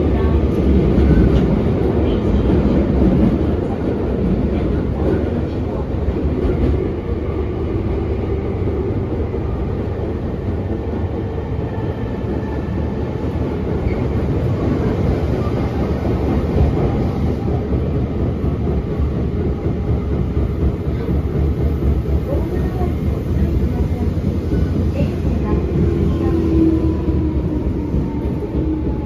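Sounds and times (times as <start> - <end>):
train wheels rumbling in tunnel: 0.0 - 29.0.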